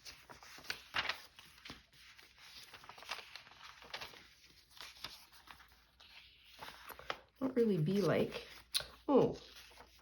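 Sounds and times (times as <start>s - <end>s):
paper and card rustling: 0.0s - 10.0s.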